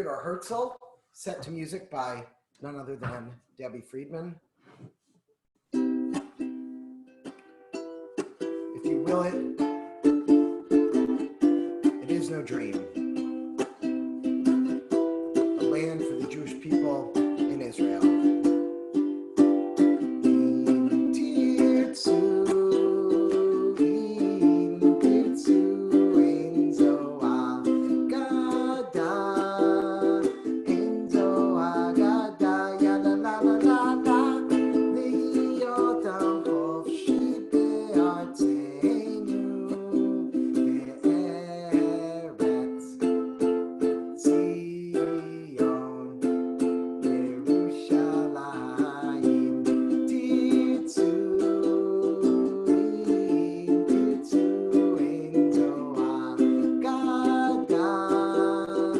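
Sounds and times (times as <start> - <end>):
ukulele strumming chords: 5.6 - 58.9.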